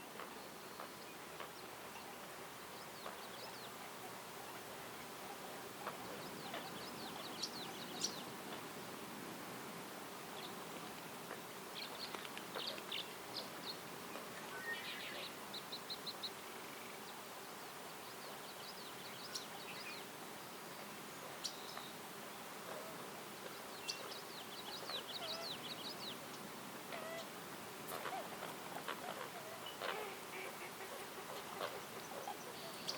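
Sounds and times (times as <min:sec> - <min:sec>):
faint natural hiss: 0:00.0 - 0:32.9
songbirds chirping and trilling: 0:00.0 - 0:32.9.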